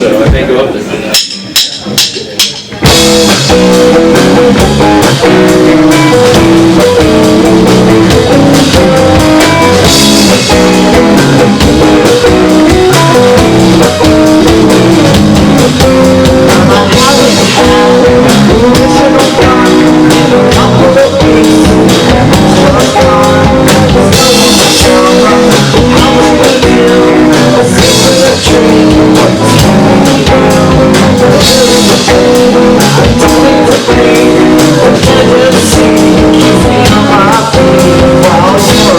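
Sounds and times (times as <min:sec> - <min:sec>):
drum kit playing: 0:00.0 - 0:38.9
bass guitar: 0:01.1 - 0:38.9
electric guitar: 0:02.7 - 0:38.9.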